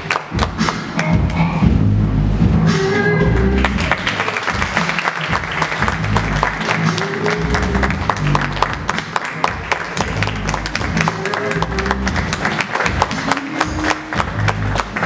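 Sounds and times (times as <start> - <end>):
audience clapping: 0.0 - 1.4, 3.4 - 15.0
slow backing music: 0.0 - 15.0.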